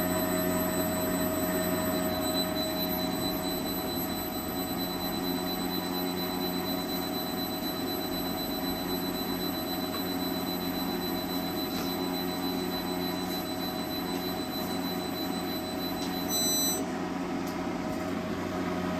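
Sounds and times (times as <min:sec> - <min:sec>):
high-pitched switching whine: 0:00.0 - 0:16.9.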